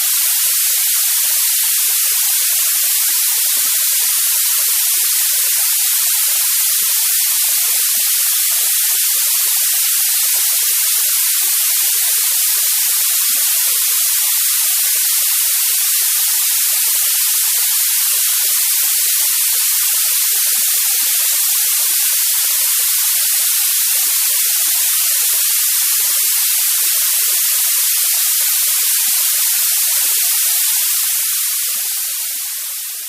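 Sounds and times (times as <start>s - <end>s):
high-pitched white noise hiss: 0.0s - 33.0s.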